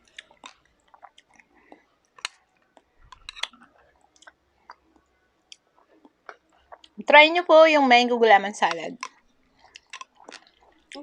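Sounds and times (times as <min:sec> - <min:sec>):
chewing soft food: 0:00.0 - 0:07.0, 0:09.0 - 0:11.0
wet mouth clicks and smacks: 0:00.0 - 0:07.0, 0:08.7 - 0:11.0.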